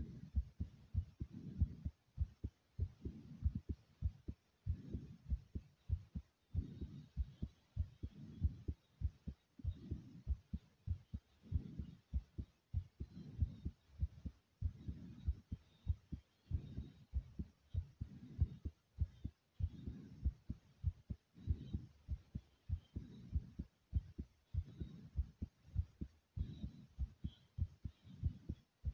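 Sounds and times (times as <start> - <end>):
heartbeat thumps: 0.0 - 28.9.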